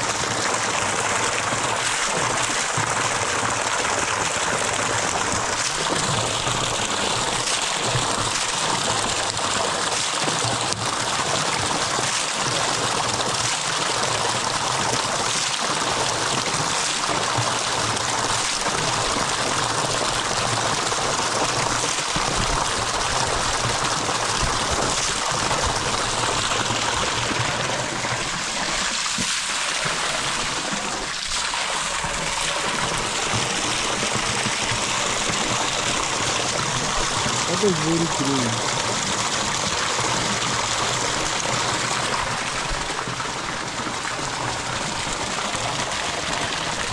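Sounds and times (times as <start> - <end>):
water rushing and trickling: 0.0 - 46.9.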